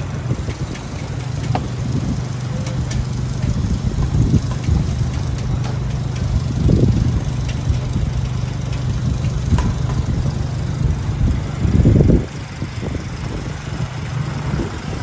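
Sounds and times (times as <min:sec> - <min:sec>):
city traffic rumble: 0:00.0 - 0:15.0
low engine hum: 0:00.0 - 0:15.0
wind buffeting microphone: 0:00.0 - 0:15.0.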